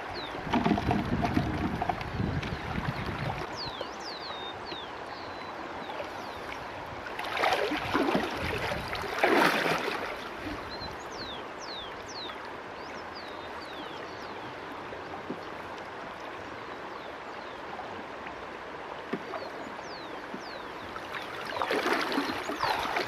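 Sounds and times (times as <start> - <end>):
river water sloshing and splashing: 0.0 - 23.0.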